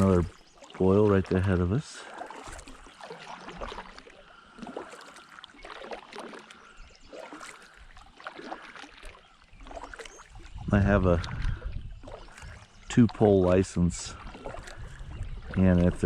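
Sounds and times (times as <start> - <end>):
kayak paddle splashing water: 0.0 - 16.0.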